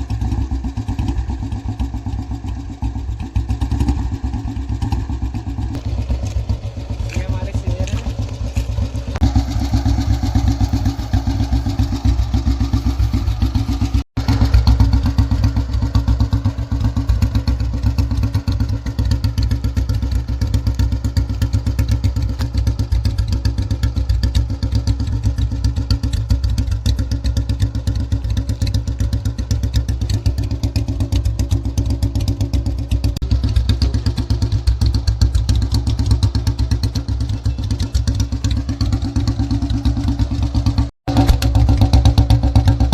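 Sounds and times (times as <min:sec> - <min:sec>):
motorcycle engine thumping: 0:00.0 - 0:42.9.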